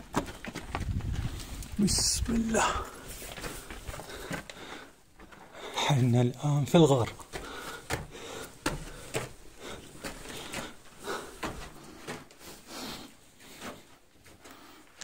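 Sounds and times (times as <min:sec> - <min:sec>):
footsteps on gravel: 0:00.0 - 0:12.6.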